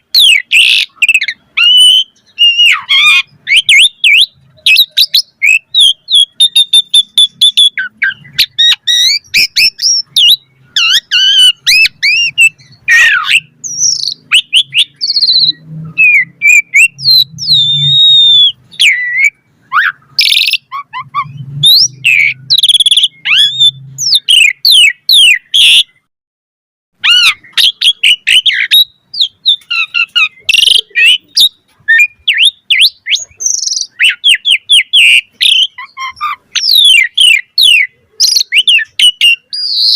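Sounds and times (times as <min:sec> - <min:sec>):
starling singing varied song: 0:00.0 - 0:26.0, 0:27.0 - 0:39.9.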